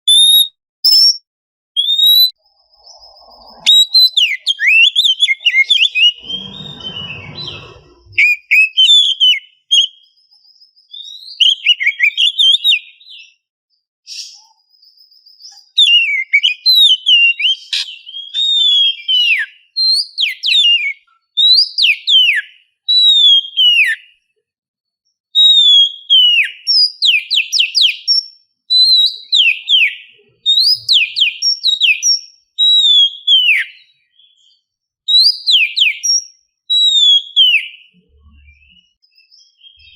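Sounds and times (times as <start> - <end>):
bird singing whistled phrases: 0.0 - 1.2, 1.8 - 13.4, 14.1 - 24.1, 25.4 - 39.9.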